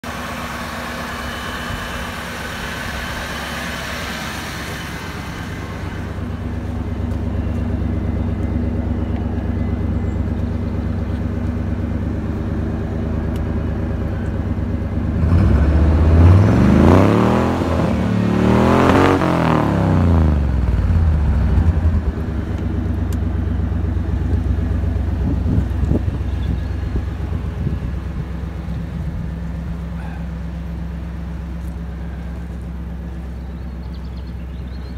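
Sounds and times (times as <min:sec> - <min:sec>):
truck engine idling and revving: 0:00.0 - 0:34.9.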